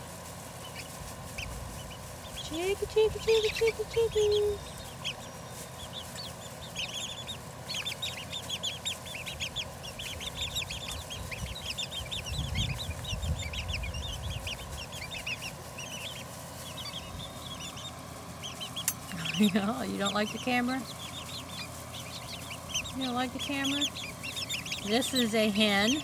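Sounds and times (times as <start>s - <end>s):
chicks peeping and cheeping: 0.0s - 26.0s.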